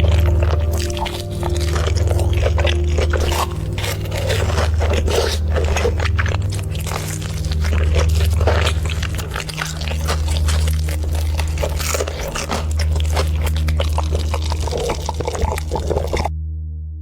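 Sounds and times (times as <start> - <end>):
crunching fried chicken: 0.0 - 16.3
background music: 0.0 - 17.0.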